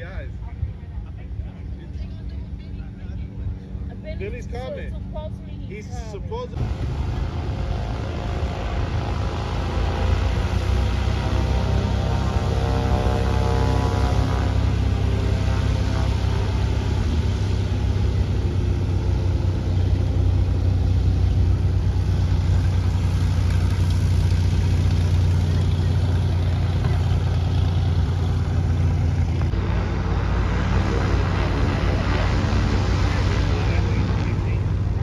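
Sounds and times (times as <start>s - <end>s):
light aircraft engine droning: 0.0s - 35.0s.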